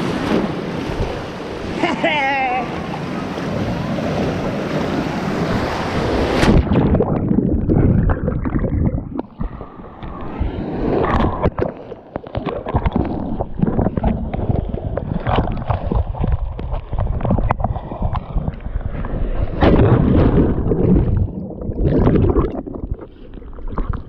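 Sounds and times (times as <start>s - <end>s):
surf and wind: 0.0s - 22.8s
muffled underwater sloshing: 2.7s - 24.0s.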